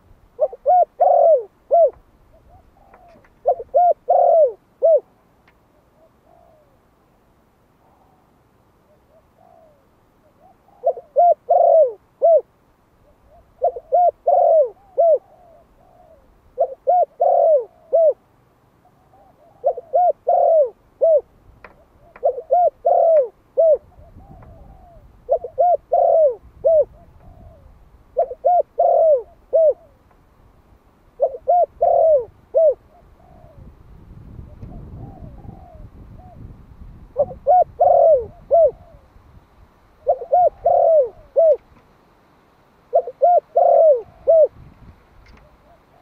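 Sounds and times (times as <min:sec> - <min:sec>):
dove cooing: 0:00.0 - 0:06.9, 0:07.8 - 0:30.1, 0:31.1 - 0:39.2, 0:40.0 - 0:41.7, 0:42.9 - 0:44.6, 0:45.3 - 0:46.0.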